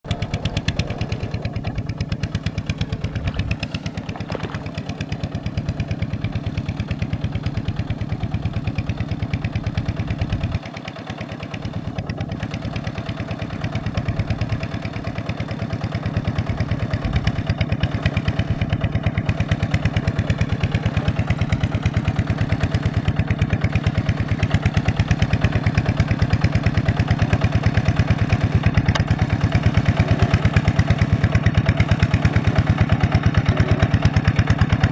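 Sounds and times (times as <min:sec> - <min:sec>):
engine running: 0:00.1 - 0:34.9.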